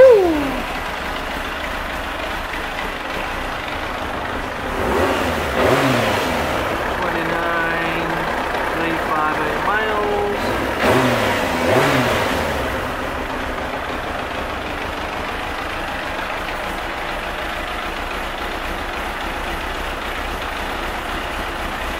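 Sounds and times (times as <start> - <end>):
motorcycle engine idling: 0.0 - 21.9
motorcycle engine throttle blips: 0.0 - 21.9.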